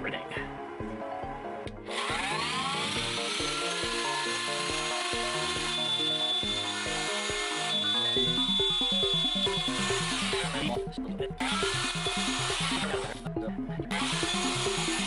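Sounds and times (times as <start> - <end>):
background music: 0.0 - 15.0
wood router whining: 0.8 - 15.0
router bit cutting wood: 1.8 - 10.8, 11.4 - 15.0.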